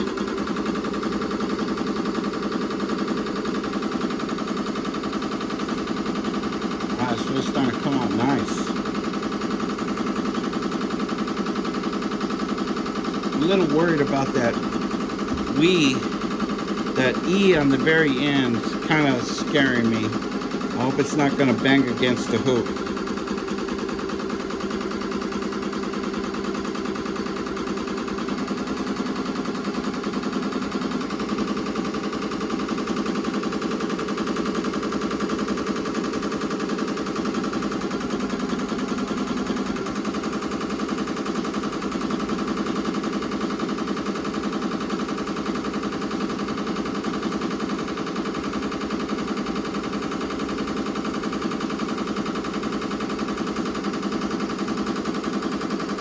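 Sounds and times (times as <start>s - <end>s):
embroidery machine needle rattle: 0.0s - 56.0s.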